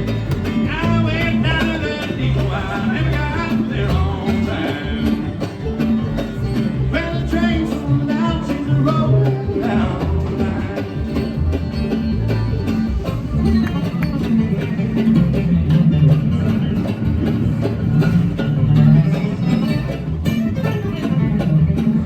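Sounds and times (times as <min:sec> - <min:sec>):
acoustic string band playing: 0:00.0 - 0:22.0.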